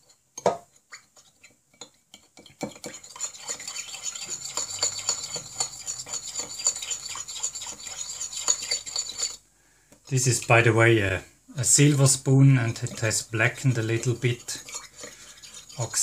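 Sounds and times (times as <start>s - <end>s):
spoon stirring in glass bowl: 0.0s - 9.4s, 12.5s - 16.0s.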